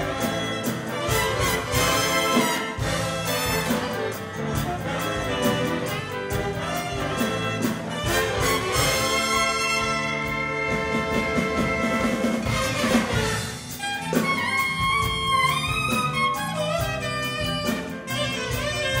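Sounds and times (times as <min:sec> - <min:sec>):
big band playing jazz: 0:00.0 - 0:19.0.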